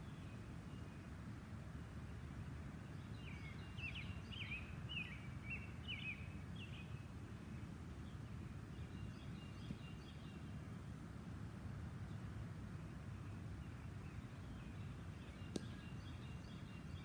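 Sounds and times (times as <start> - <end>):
songbird chirping: 0.0 - 1.2, 2.0 - 11.0, 12.0 - 17.0.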